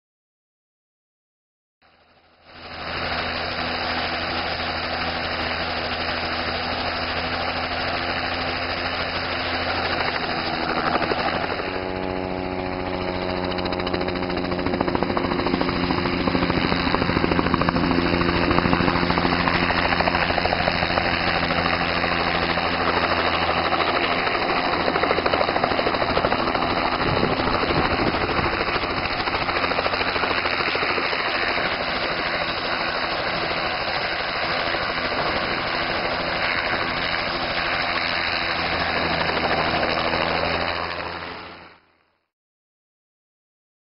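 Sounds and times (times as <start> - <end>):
helicopter rotor and engine: 1.9 - 42.0.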